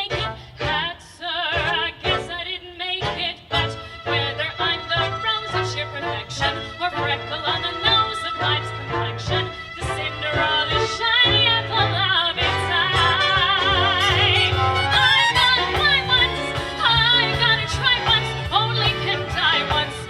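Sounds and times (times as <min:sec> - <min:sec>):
instrumental accompaniment: 0:00.0 - 0:20.0
woman singing show tune: 0:00.0 - 0:20.0.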